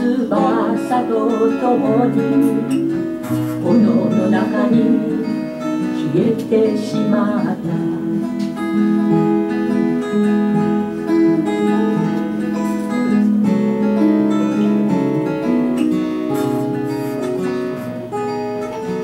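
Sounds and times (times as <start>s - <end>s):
acoustic guitars playing: 0.0s - 19.0s.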